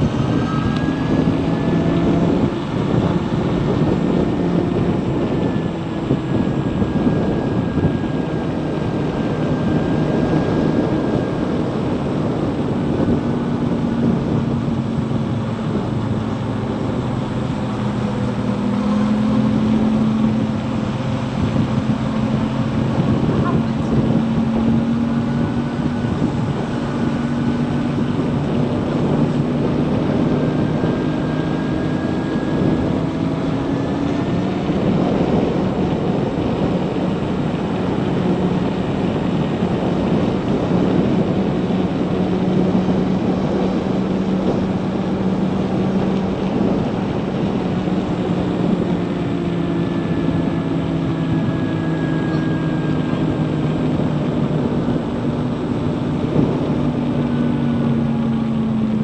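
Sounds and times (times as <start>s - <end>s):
electric motor whine: 0.0s - 59.0s
wind rushing: 0.0s - 59.0s.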